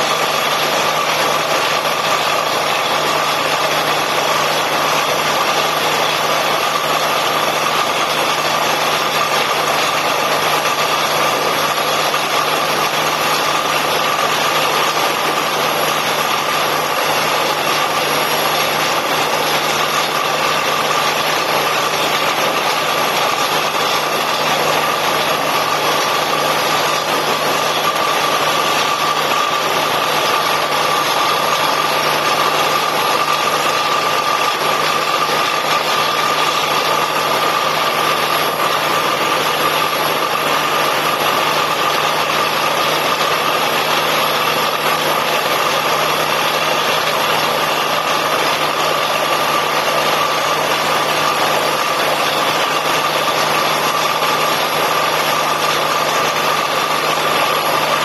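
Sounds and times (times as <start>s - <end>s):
drilling rig engine and compressor roar: 0.0s - 58.0s
steady whine: 0.0s - 58.0s.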